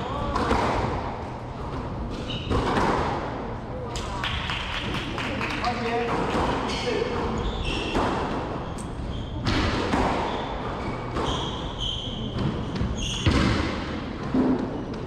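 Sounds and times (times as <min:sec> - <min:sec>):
court shoes squeaking: 0:00.0 - 0:04.0, 0:05.6 - 0:15.0
squash ball hitting racket and walls: 0:00.0 - 0:05.1, 0:05.9 - 0:15.0.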